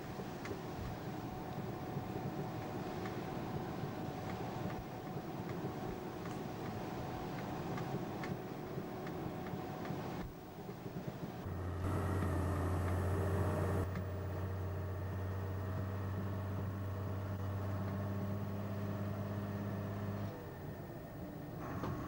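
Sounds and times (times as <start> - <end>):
lorry engine and road noise: 0.0 - 22.0.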